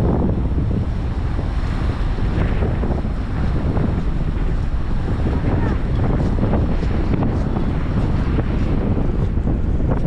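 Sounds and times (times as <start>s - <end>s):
flood water rushing through spillway: 0.0s - 9.8s
wind buffeting microphone: 0.0s - 10.0s.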